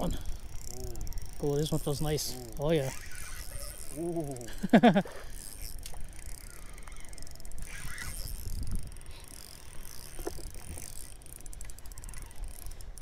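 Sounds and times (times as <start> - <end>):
fishing reel clicking: 0.0 - 13.0.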